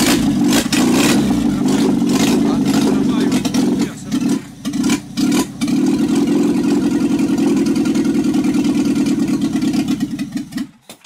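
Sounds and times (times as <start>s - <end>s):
unmuffled car engine rattle: 0.0s - 10.8s.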